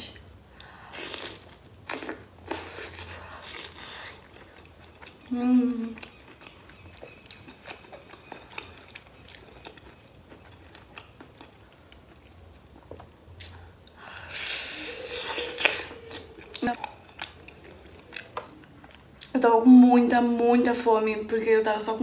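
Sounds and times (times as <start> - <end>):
chewing pizza: 1.0 - 19.4.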